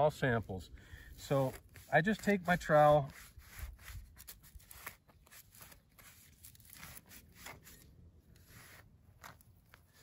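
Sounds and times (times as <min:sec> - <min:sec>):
trowel scraping into soil: 0:01.2 - 0:10.0.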